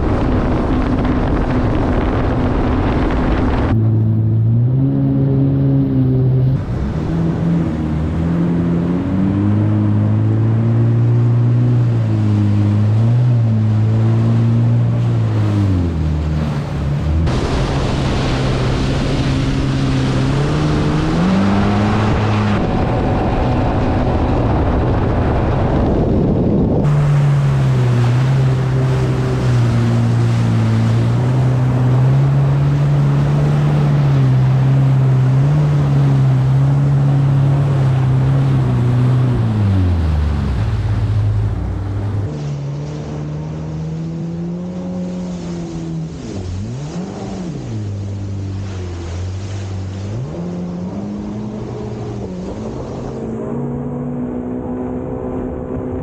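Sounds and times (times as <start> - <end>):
jet ski engine running: 0.0 - 56.0
wind: 0.0 - 56.0
water spray rushing: 5.6 - 25.7, 26.8 - 53.3.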